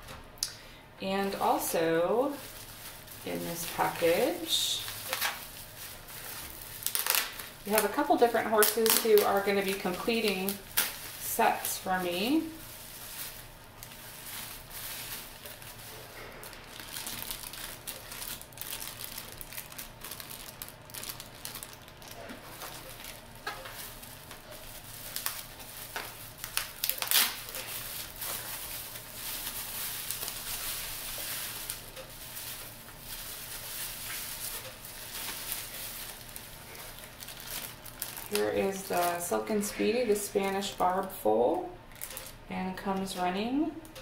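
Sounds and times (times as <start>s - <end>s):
bubble wrap crinkling: 1.2s - 43.2s
sharp crackles: 2.3s - 39.3s.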